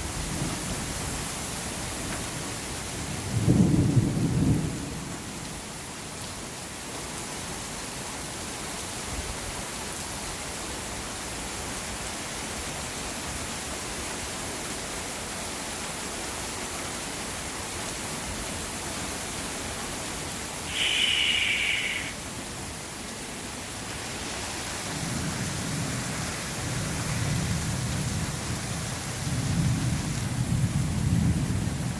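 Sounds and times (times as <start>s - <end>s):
steady rain: 0.0s - 31.9s.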